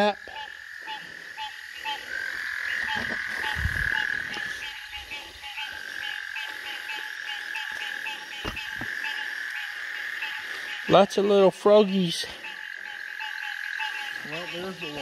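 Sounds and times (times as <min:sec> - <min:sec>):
frogs calling: 0:00.0 - 0:15.0.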